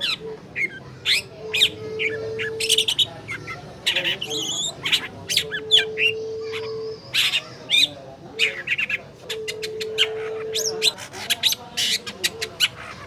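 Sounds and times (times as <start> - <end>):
shrike singing: 0.0 - 13.0.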